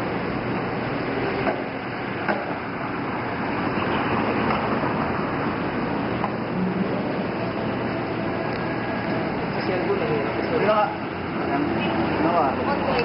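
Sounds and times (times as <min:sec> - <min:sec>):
street traffic rumble and hiss: 0:00.0 - 0:13.0.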